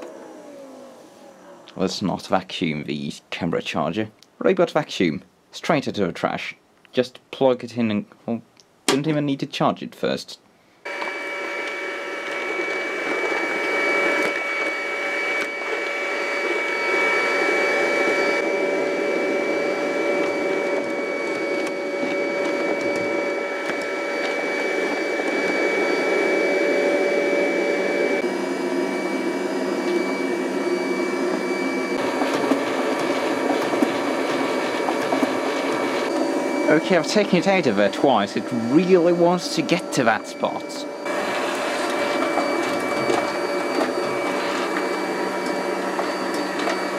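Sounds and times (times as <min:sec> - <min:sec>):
robot vacuum whining: 0:00.0 - 0:02.2, 0:10.9 - 0:46.9.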